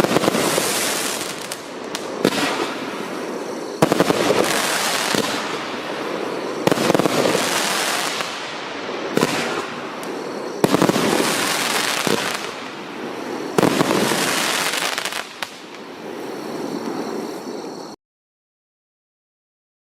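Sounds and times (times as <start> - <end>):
firework bangs: 0.0 - 17.8
dense firework crackling: 0.0 - 18.0.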